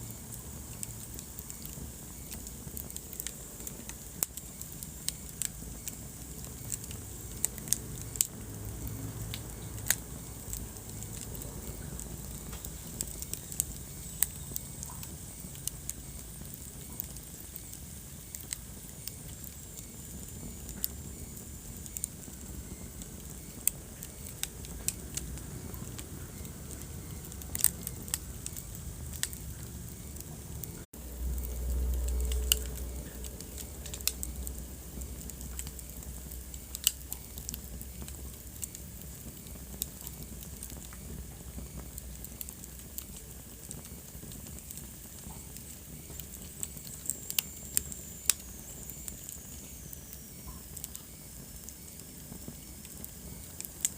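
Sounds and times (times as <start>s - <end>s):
fire crackling and popping: 0.0s - 53.9s
low fire rumble: 0.0s - 53.9s.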